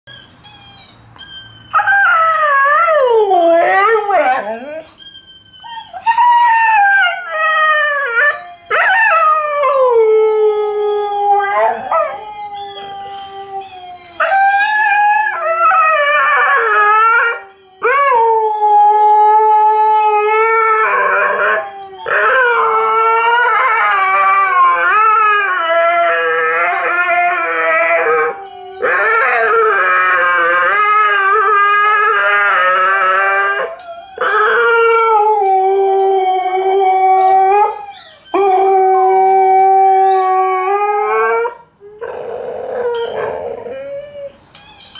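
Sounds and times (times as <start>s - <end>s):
dog howling: 5.6s - 44.4s.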